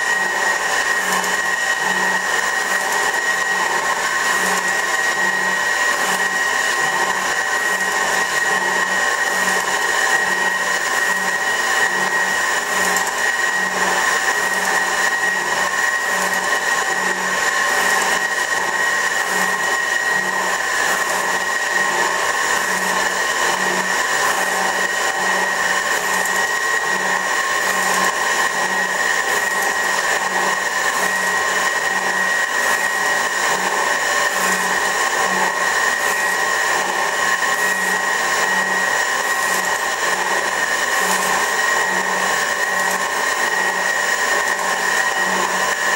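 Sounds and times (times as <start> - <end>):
metal shaper whine and pulse: 0.0 - 45.9.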